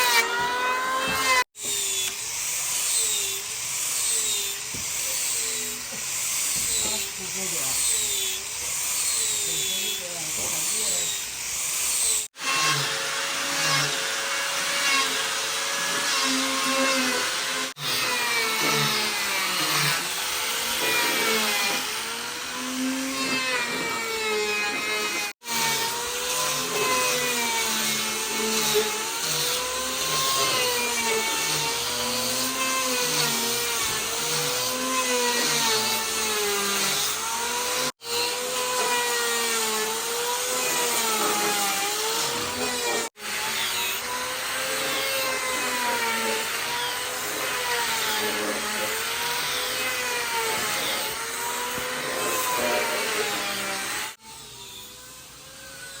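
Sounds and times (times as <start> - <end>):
power tool cutting wood: 0.0 - 56.0.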